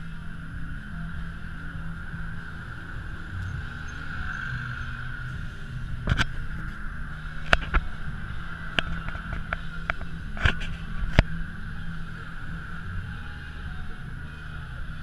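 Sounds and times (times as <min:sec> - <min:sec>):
low outdoor rumble and hum: 0:00.0 - 0:15.0.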